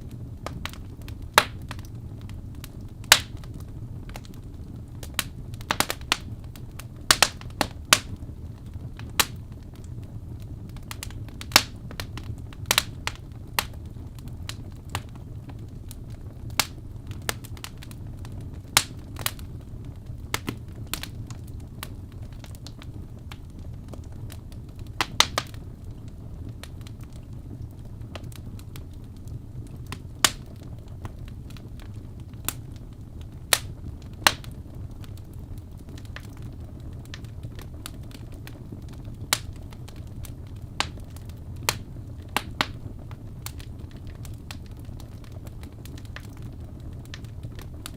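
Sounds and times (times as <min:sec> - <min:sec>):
low rumble of burning: 0:00.0 - 0:47.9
wood fire snaps and pops: 0:00.0 - 0:47.9.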